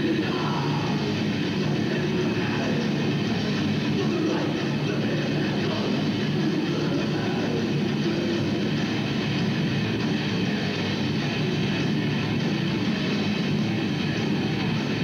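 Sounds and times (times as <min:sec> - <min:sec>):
metal band playing live: 0:00.0 - 0:15.0.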